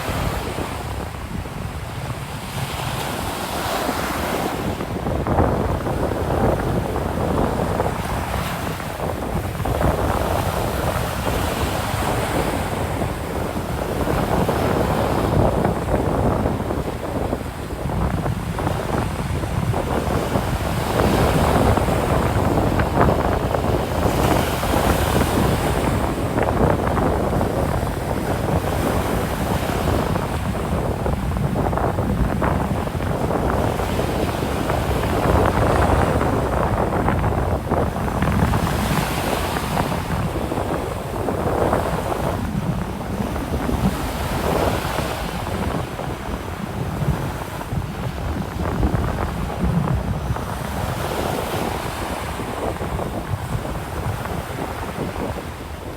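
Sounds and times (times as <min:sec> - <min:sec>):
ocean surf breaking: 0:00.0 - 0:55.9
wind rumbling on microphone: 0:00.0 - 0:55.9.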